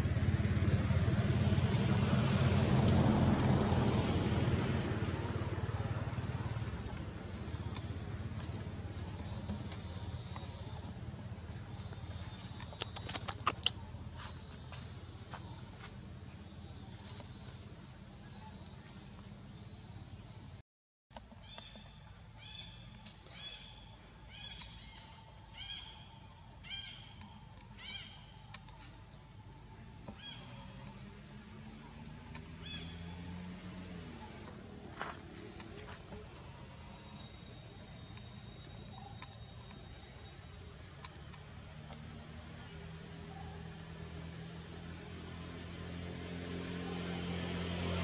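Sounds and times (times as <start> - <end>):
high insect drone: 0.0 - 20.6, 21.4 - 48.0.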